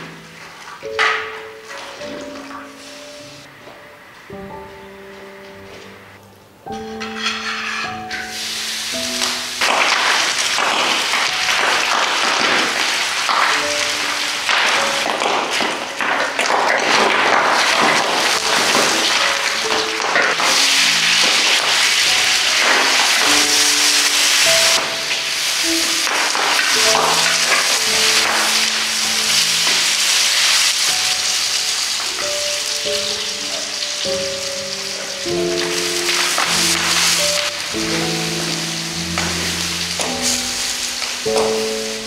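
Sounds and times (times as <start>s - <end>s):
food sizzling in a wok: 0.0s - 3.6s, 6.8s - 42.0s
light plucked background music: 0.0s - 42.0s.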